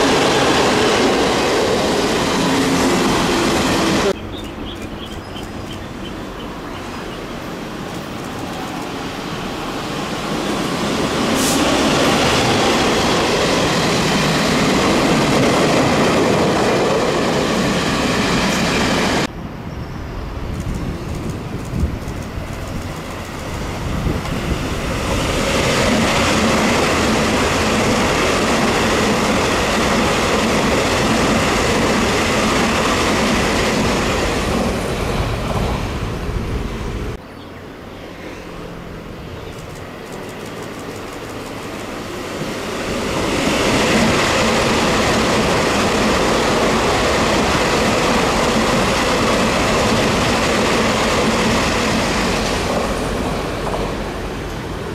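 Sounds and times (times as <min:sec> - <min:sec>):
electric train passing: 0:00.0 - 0:54.9.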